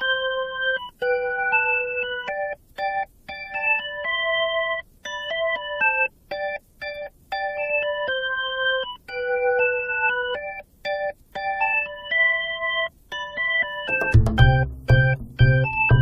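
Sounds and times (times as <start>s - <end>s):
keyboard chords and notes: 0.0s - 16.0s.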